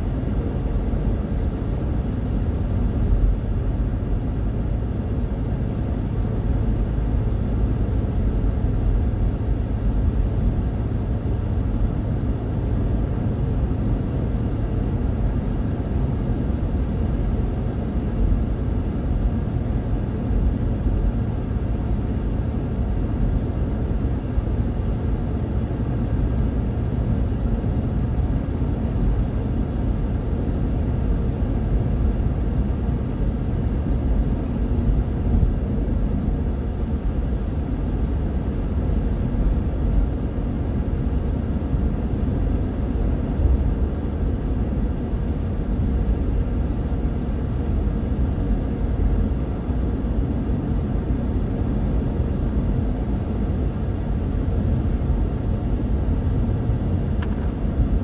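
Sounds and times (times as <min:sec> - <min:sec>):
car driving from inside cabin: 0:00.0 - 0:58.0.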